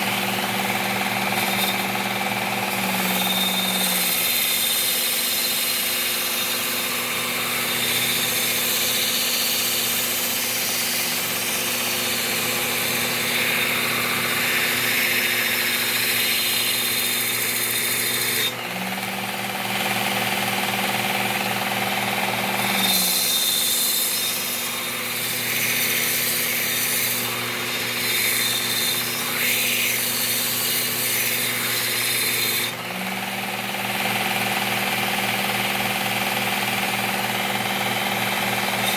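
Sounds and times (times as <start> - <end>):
belt sharpener grinding metal: 0.0 - 38.9.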